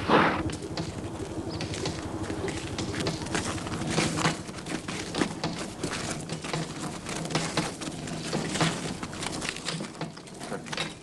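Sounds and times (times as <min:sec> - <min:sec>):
rail trolley clattering: 0:00.4 - 0:11.0.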